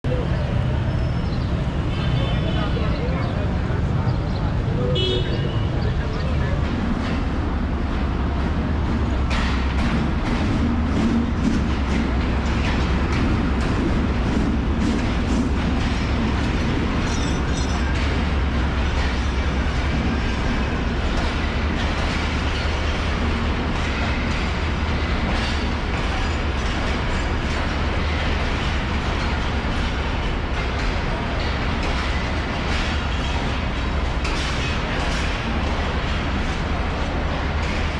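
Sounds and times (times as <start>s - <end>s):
train rumbling on track: 0.0s - 37.9s
wheels clicking and rattling: 2.7s - 37.9s.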